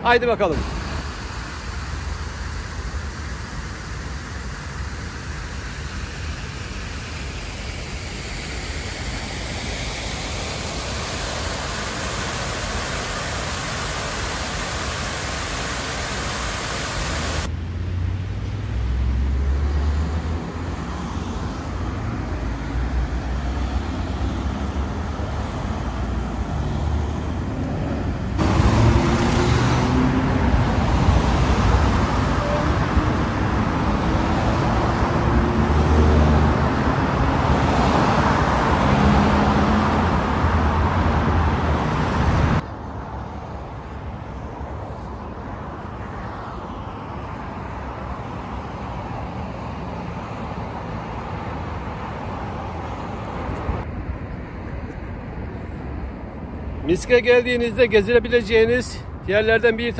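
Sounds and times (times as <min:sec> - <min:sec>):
street traffic passing: 0:00.0 - 0:59.9.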